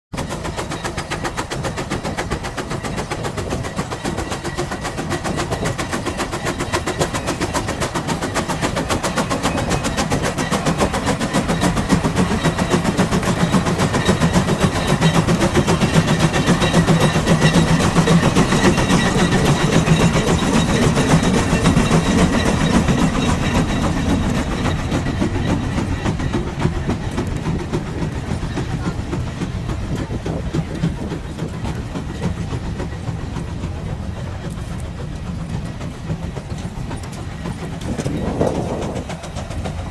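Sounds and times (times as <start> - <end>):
steam engine exhaust chuffing: 0.1 - 39.9.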